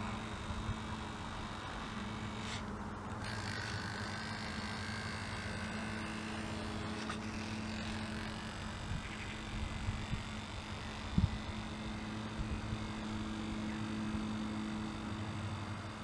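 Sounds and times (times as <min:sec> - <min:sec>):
higher motor tone: 0:00.0 - 0:16.0
small electric motor whining: 0:00.0 - 0:16.0.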